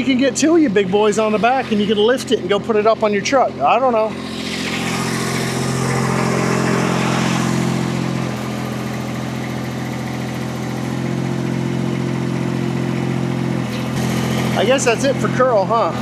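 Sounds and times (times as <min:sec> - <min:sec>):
small loader engine running: 0:00.0 - 0:16.0.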